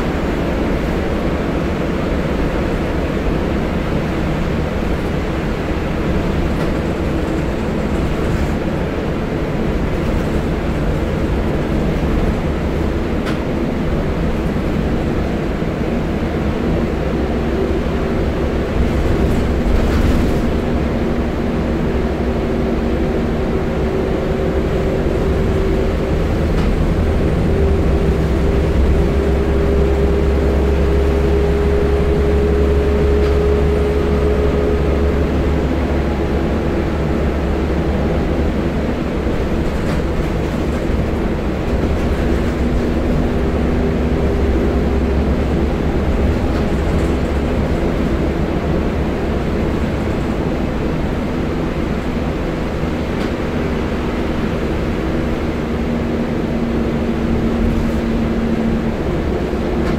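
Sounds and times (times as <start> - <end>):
bus diesel engine running: 0.0 - 59.9
road and body rumble: 0.0 - 59.9.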